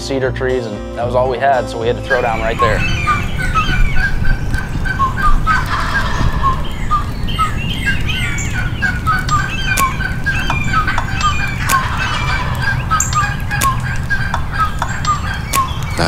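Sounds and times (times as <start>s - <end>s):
bird repeating whistled notes: 2.0s - 16.0s
songbirds dawn chorus: 2.0s - 16.0s
turkeys gobbling: 2.0s - 16.0s.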